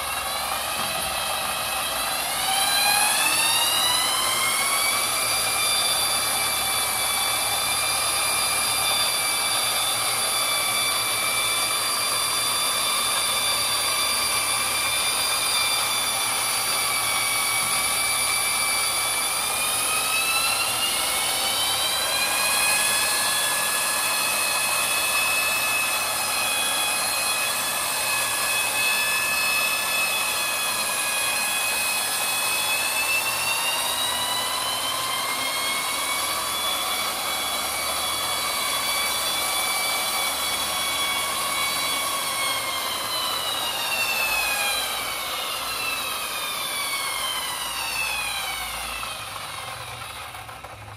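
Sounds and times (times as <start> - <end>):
treadmill motor whining: 0.0 - 50.9.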